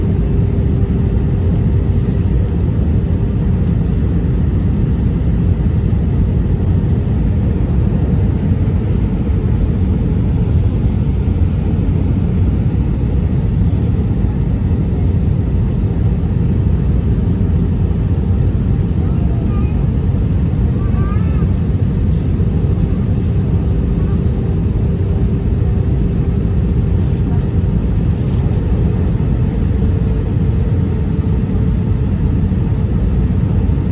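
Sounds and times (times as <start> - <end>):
airplane cabin rumble: 0.0 - 33.9.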